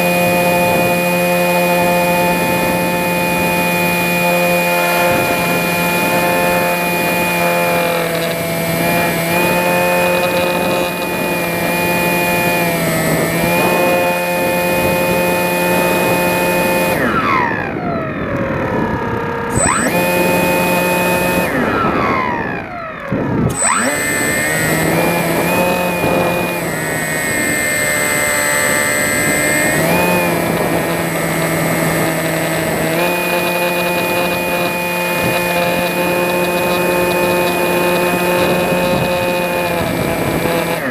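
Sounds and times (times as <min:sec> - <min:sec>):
rc glider motor and propeller whine: 0:00.0 - 0:40.9.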